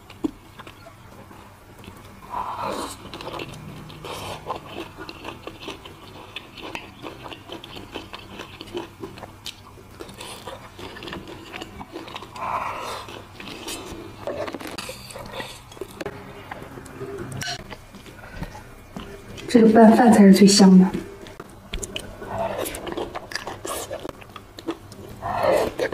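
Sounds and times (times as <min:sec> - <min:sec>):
crunchy chewing: 0:00.0 - 0:19.5, 0:21.2 - 0:25.9.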